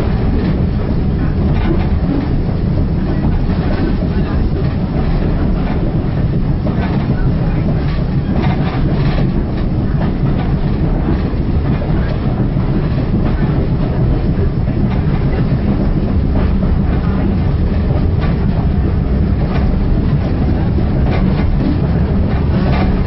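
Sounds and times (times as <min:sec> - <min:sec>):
railway carriage rumble: 0:00.0 - 0:23.0
wheels clicking over rail joints: 0:00.0 - 0:23.0.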